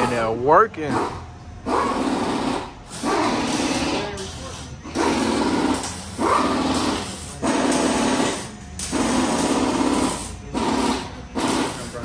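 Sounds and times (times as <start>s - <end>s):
engine revving through loud exhaust: 0.0s - 12.0s.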